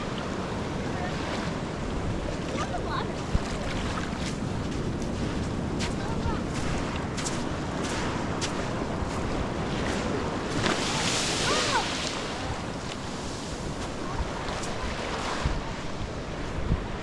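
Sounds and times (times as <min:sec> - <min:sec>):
ocean surf washing onto beach: 0:00.0 - 0:17.0
wind rumbling on microphone: 0:00.0 - 0:17.0.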